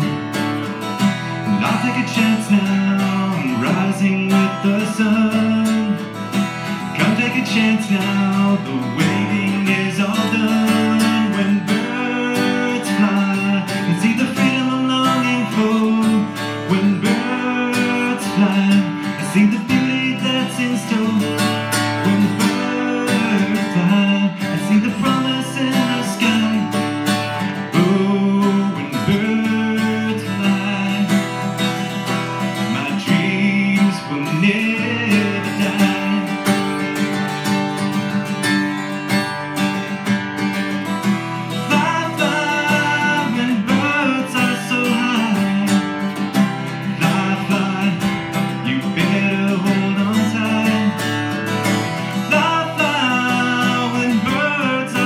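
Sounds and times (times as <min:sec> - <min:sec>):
man singing: 0:00.0 - 0:38.9, 0:40.7 - 0:55.0
acoustic guitar strumming: 0:00.0 - 0:55.0.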